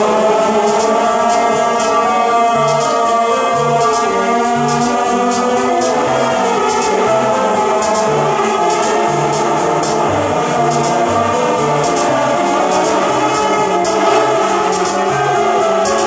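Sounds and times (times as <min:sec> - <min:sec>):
low stepping note: 0:00.0 - 0:15.9
sustained electronic tones: 0:00.0 - 0:16.0.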